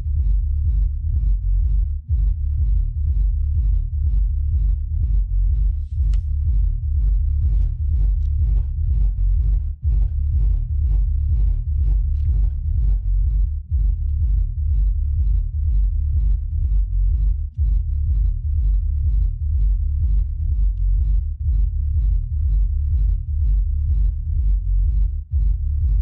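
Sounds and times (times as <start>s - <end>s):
subwoofer throbbing deep bass: 0.0s - 26.0s.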